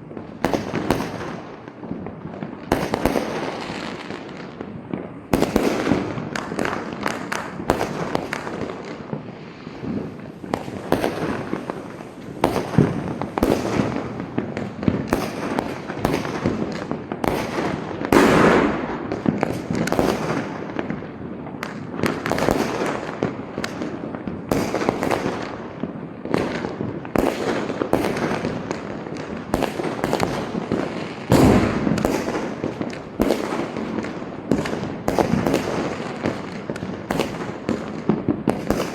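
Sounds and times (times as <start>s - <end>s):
firecrackers bangs and pops: 0.0s - 38.9s.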